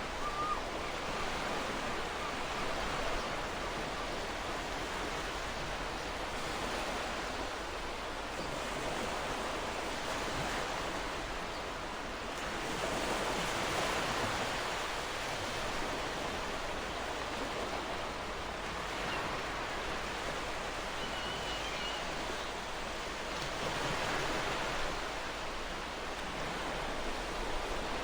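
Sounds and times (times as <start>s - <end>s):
ocean waves on a shore: 0.0s - 28.0s.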